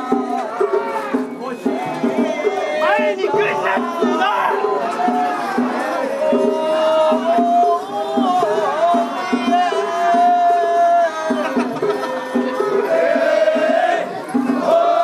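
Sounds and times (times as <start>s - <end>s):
repeating drum beats: 0.0s - 15.0s
wavering festival melody: 0.0s - 15.0s.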